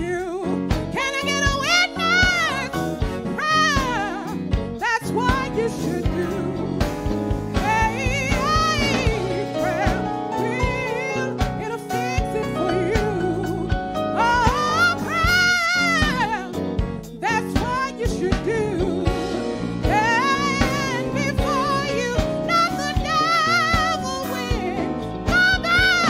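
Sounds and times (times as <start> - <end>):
person singing with vibrato: 0.0 - 6.8, 7.5 - 26.0
sustained keyboard chords: 0.0 - 26.0.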